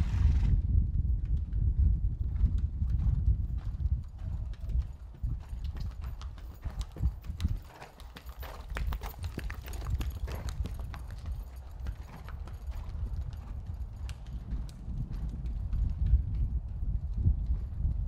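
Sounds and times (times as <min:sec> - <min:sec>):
horse hoofbeats: 0:00.7 - 0:18.0.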